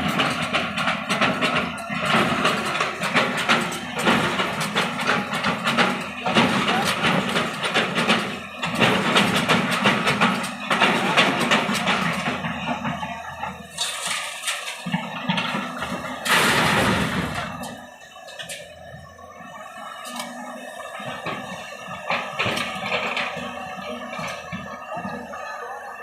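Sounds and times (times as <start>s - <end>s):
earthmoving machinery running: 0.0s - 26.0s.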